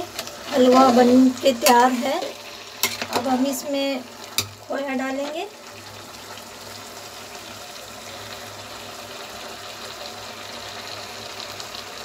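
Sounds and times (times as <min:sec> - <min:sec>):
food sizzling in pot: 0:00.0 - 0:12.0.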